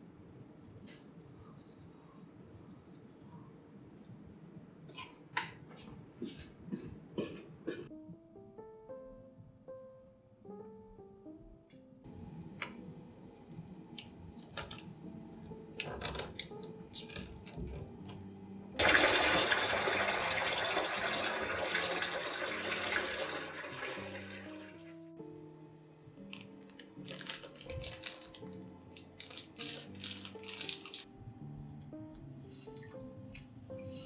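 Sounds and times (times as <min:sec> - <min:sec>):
soft background music: 0:00.0 - 0:34.0.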